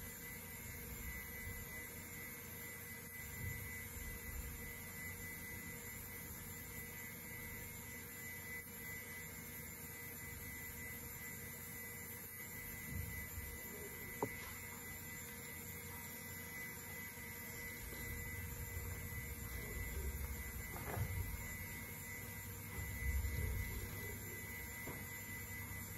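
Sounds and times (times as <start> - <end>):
computer server hum: 0.0 - 25.9
thin high whine: 0.0 - 25.9.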